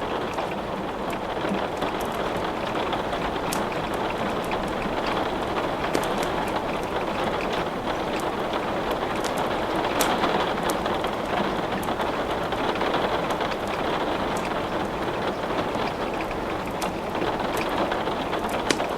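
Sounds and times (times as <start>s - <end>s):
steady rain: 0.0s - 18.9s.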